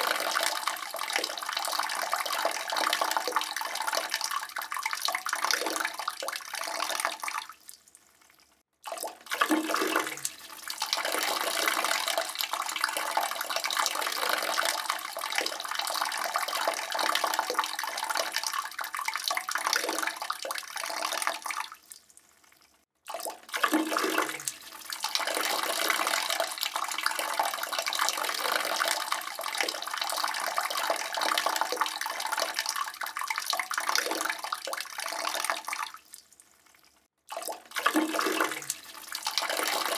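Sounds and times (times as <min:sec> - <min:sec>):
urine splashing into toilet water: 0:00.0 - 0:39.9.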